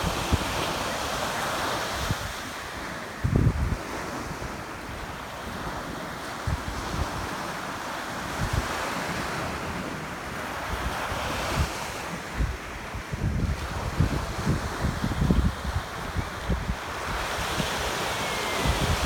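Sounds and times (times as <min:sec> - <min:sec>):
ocean surf washing: 0:00.0 - 0:19.0
wind gusting on microphone: 0:00.0 - 0:19.0.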